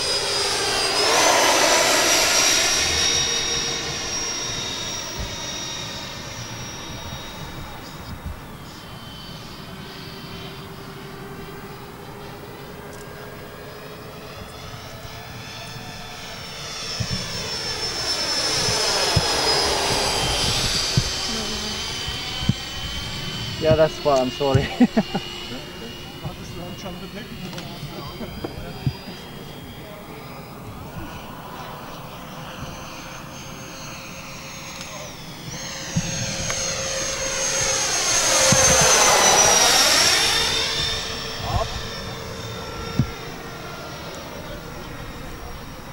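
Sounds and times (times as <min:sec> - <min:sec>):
model plane fans whining overhead: 0:00.0 - 0:45.9.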